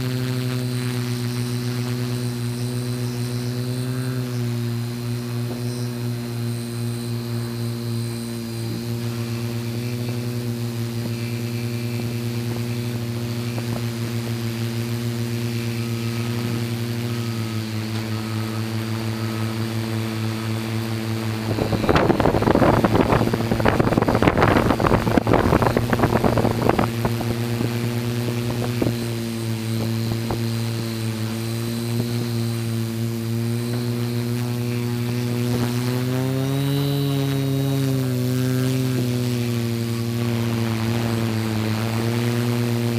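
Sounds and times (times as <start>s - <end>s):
drone motors humming: 0.0s - 42.9s
loud crackling noise: 0.0s - 42.9s.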